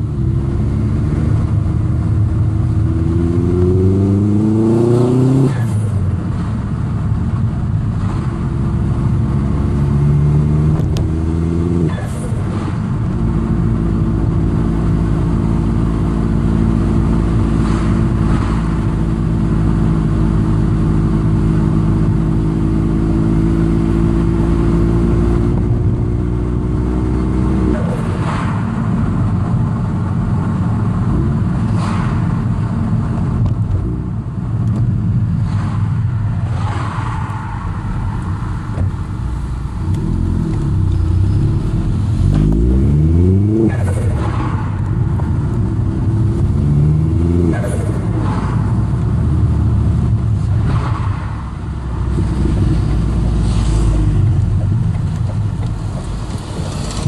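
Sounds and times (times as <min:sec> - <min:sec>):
car engine revving: 0:00.0 - 0:57.0
road noise: 0:00.0 - 0:57.0.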